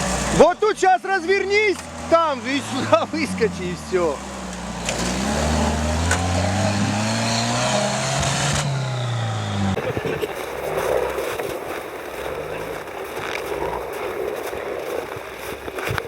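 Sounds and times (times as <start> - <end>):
off-road vehicle engine revving: 0.0 - 15.0
rough noisy rumble: 0.0 - 16.0.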